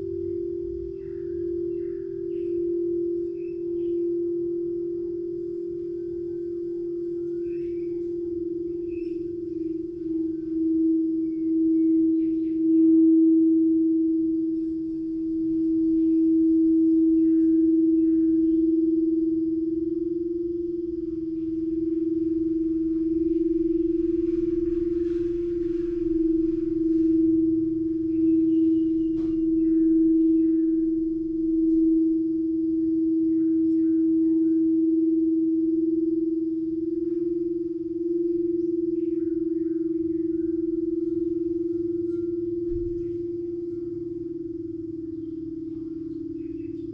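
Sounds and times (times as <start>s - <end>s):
singing bowl tone: 0.0s - 46.9s.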